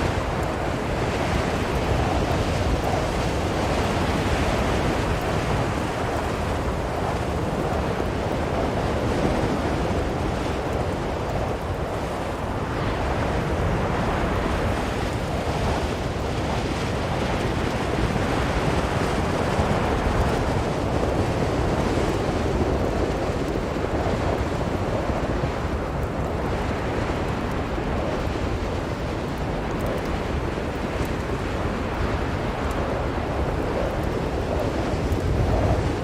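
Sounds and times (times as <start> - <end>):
blizzard wind rushing: 0.0 - 36.0.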